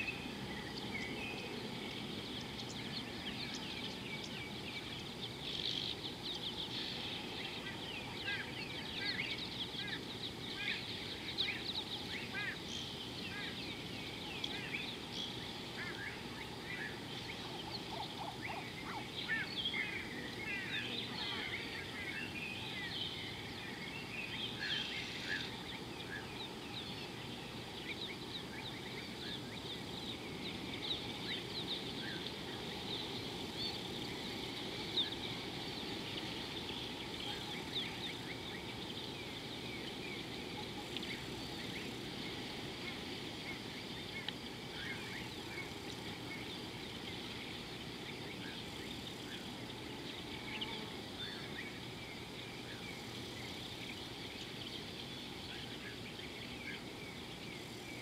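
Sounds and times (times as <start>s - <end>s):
birds chirping: 0.0s - 58.0s
low background noise: 0.0s - 58.0s.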